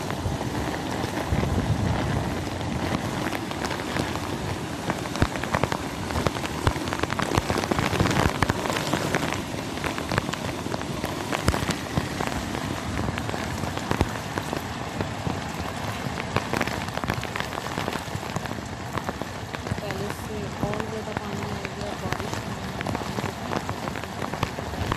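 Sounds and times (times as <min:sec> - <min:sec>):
close raindrop hits: 0:00.0 - 0:24.9
heavy rain hissing: 0:00.0 - 0:24.9.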